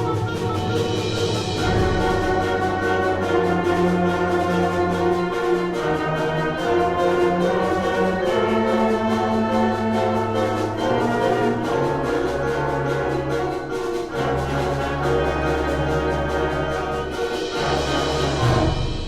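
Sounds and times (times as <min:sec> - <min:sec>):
concert band playing: 0:00.0 - 0:19.0.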